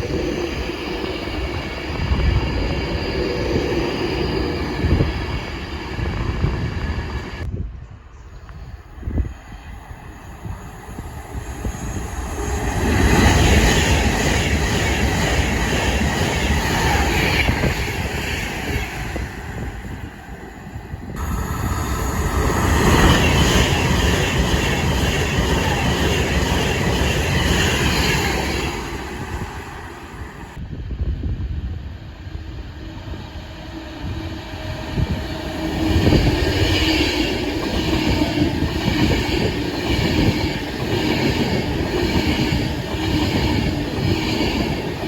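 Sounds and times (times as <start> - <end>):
train passing on rails: 0.0 - 45.0.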